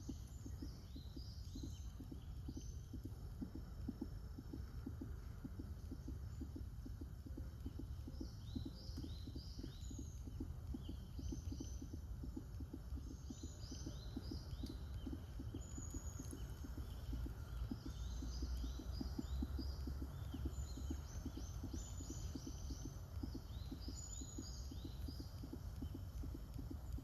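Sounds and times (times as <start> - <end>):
birds chirping: 0.0 - 27.0
soft low pulsing: 0.0 - 27.0
steady low rumble: 0.0 - 27.0.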